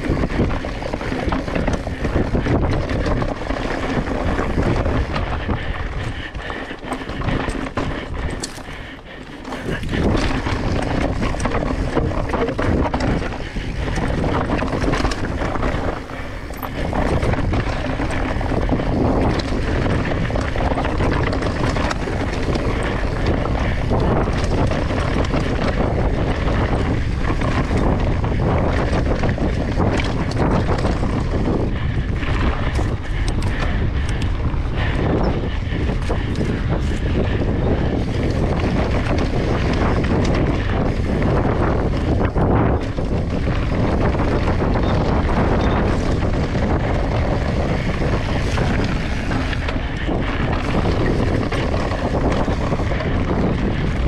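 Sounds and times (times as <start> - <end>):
bike knocking and clattering: 0.0 - 54.0
tyres rumbling over ground: 0.0 - 54.0
wind buffeting microphone: 0.0 - 54.0.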